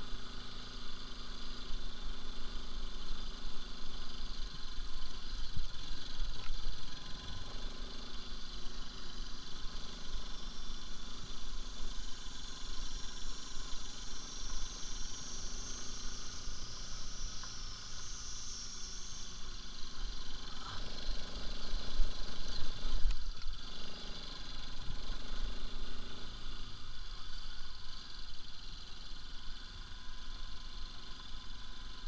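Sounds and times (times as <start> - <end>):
motorcycle engine on gravel track: 0.0 - 32.0.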